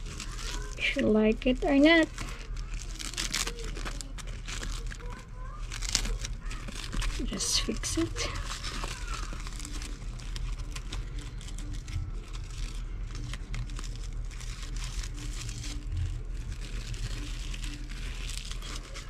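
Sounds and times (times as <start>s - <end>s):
ribbon rustling and crinkling: 0.0s - 19.0s.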